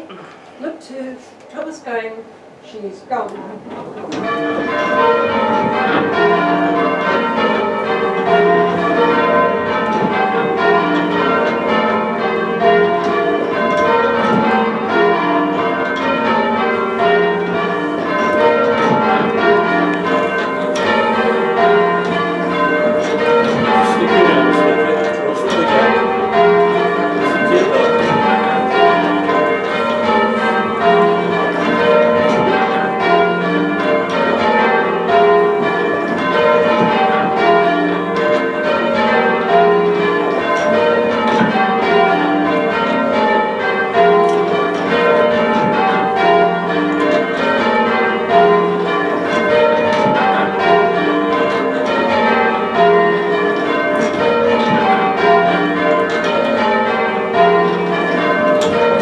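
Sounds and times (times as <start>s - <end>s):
church bells change ringing: 4.1s - 59.0s.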